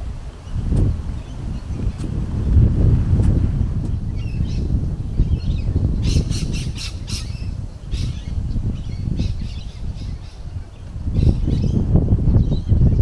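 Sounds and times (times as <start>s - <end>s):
birds calling: 0.0s - 13.0s
wind rumble on microphone: 0.0s - 13.0s.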